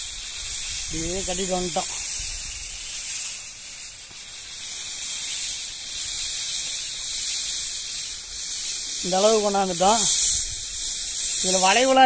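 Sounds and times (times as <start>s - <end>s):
high-pitched outdoor hiss: 0.0s - 12.0s.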